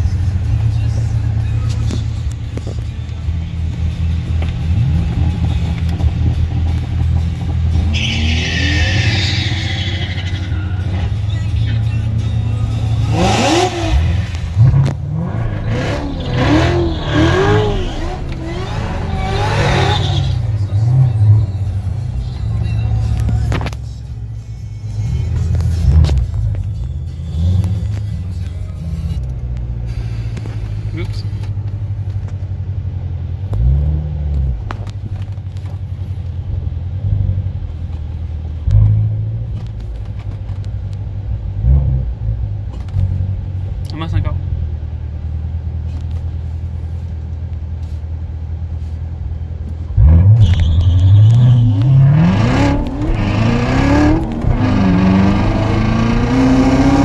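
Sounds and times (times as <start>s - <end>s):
car engine revving: 0.0s - 45.0s, 49.7s - 57.0s.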